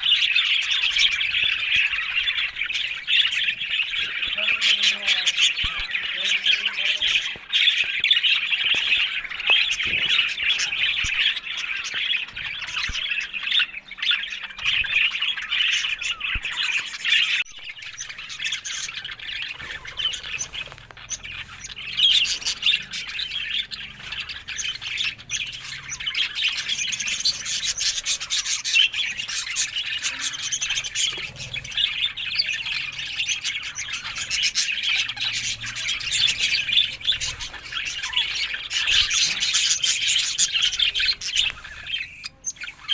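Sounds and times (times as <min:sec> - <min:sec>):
budgerigars chattering: 0:00.0 - 0:42.9.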